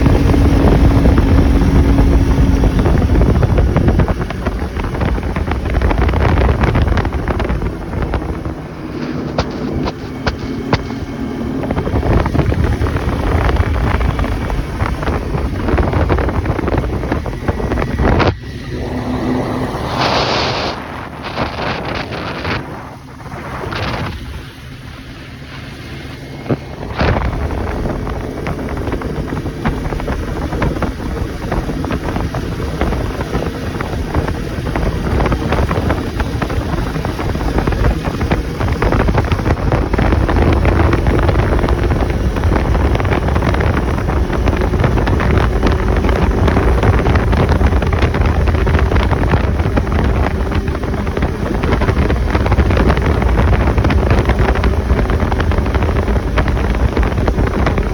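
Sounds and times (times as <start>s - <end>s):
atv engine running: 0.0s - 57.9s
wind buffeting microphone: 0.0s - 57.9s.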